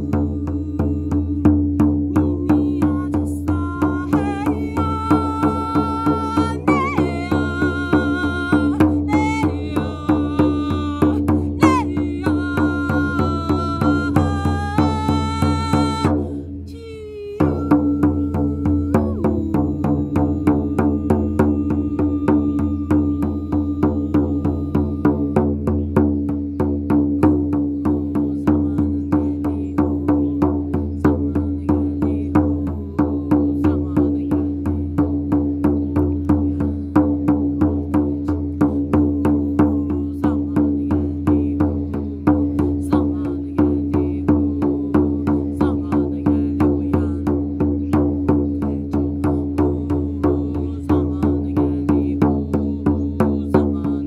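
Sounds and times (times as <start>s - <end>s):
drum beaten steadily: 0.0s - 16.6s, 17.3s - 54.0s.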